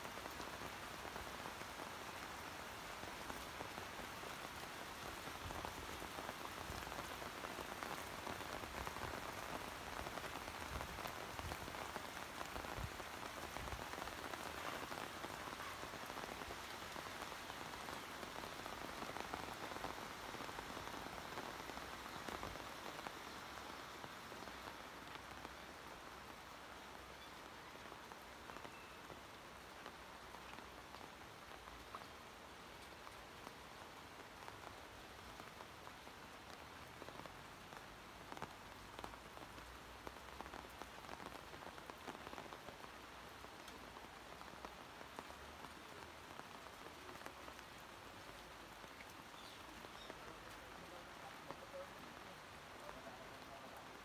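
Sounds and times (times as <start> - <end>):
heavy rain on metal roofs: 0.0 - 54.0.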